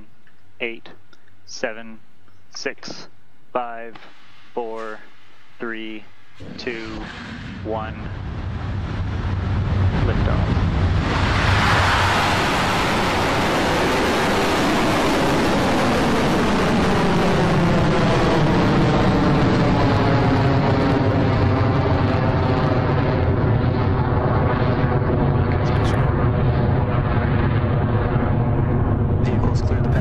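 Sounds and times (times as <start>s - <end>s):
rocket engines roaring: 5.6s - 30.0s.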